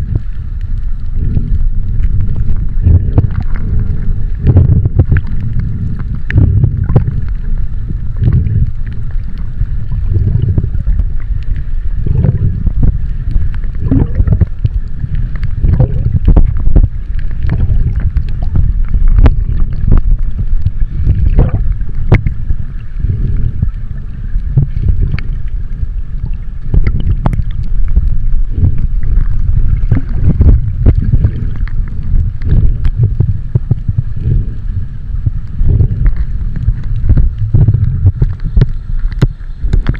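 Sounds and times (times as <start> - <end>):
underwater low rumble: 0.0 - 39.9
water clicks and splashes: 0.0 - 39.9.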